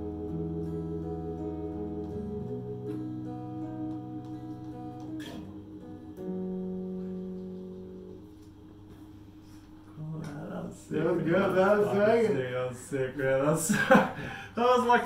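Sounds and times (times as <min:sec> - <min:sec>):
slow ambient guitar and keyboard music: 0:00.0 - 0:12.5.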